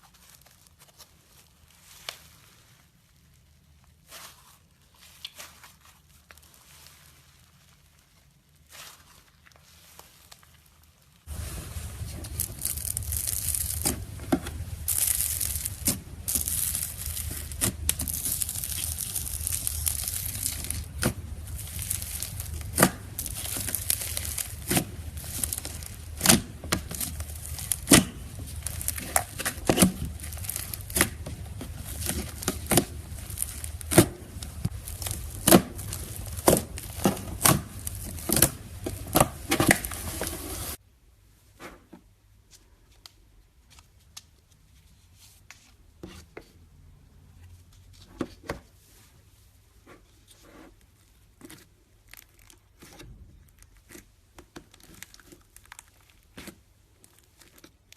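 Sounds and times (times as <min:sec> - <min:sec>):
slime crinkling and popping: 0:00.0 - 0:40.8, 0:51.0 - 0:57.9.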